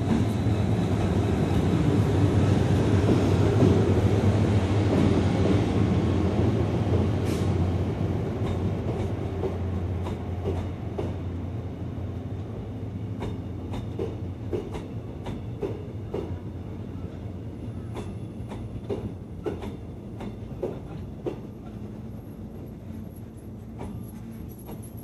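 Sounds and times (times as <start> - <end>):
train carriages rumbling: 0.0 - 11.6, 12.4 - 25.0.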